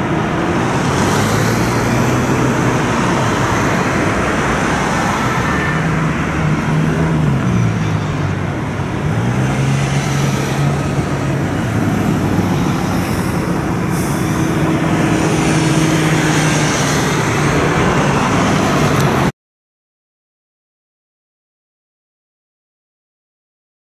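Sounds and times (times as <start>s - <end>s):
low engine drone: 0.0s - 19.3s
road traffic passing: 0.0s - 19.3s.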